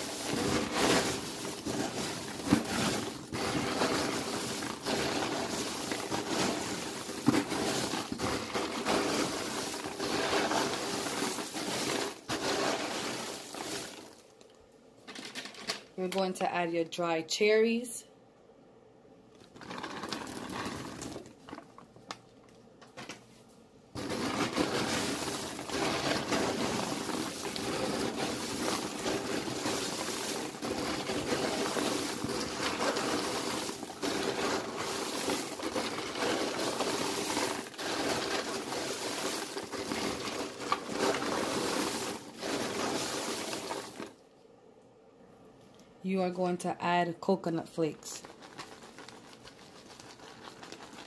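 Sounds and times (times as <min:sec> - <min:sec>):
plastic bag crinkling: 0:00.0 - 0:14.6, 0:19.4 - 0:22.5, 0:24.0 - 0:44.2, 0:48.0 - 0:51.0
popcorn crunching and rustling: 0:00.0 - 0:14.6, 0:19.3 - 0:44.2, 0:48.0 - 0:51.0.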